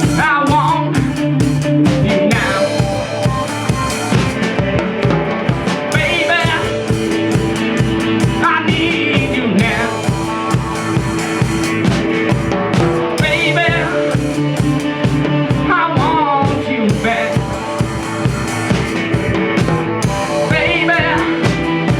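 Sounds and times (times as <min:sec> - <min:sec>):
bass and guitar: 0:00.0 - 0:21.9
drum kit beat: 0:00.0 - 0:21.9
wavering bending lead guitar: 0:00.0 - 0:21.9.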